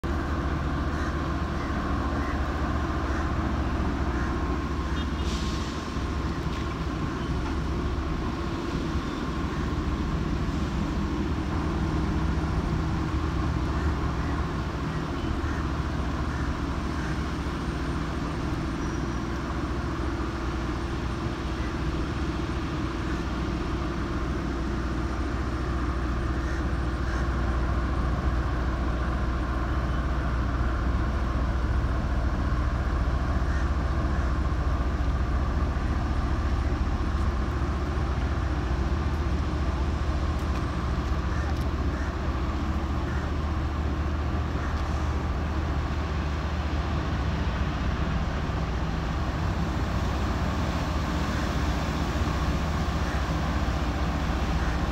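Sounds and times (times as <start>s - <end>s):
diesel engines droning: 0.0s - 54.9s.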